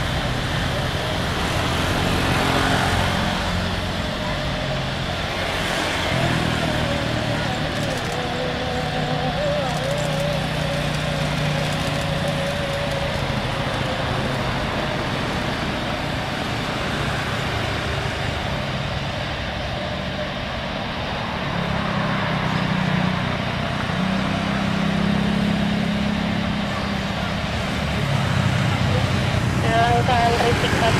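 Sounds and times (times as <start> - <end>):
jet engines roaring at takeoff: 0.0 - 30.9.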